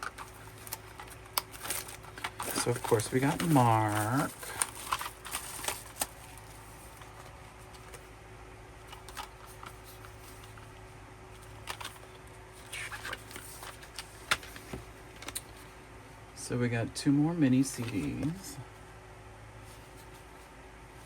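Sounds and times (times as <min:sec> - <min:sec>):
paper and plastic rustling: 0:00.0 - 0:08.1, 0:08.8 - 0:15.8, 0:17.6 - 0:18.6, 0:19.6 - 0:20.5
faint room hum: 0:00.0 - 0:21.0.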